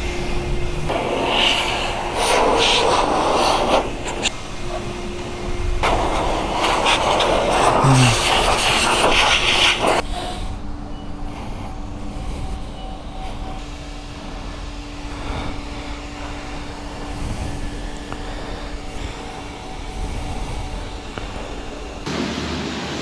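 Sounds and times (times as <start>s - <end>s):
faint steady hum: 0.0s - 22.1s.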